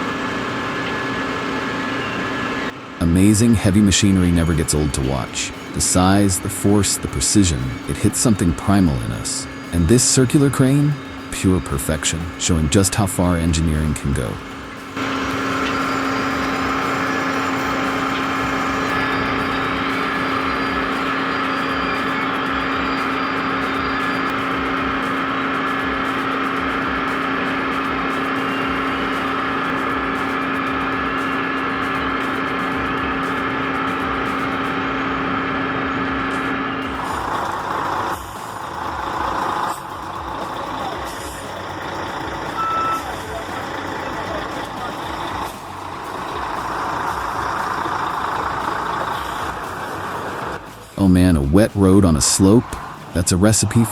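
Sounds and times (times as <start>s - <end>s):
heavy engine running: 0.0s - 53.9s
heavy machine droning: 0.0s - 53.9s.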